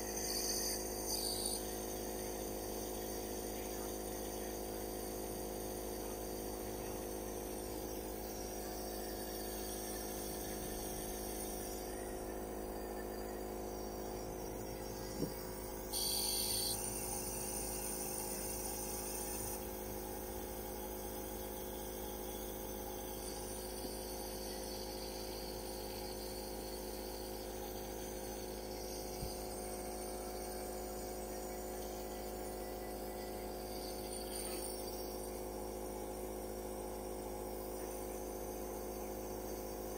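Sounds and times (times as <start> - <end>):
nebulizer motor humming: 0.0 - 39.9.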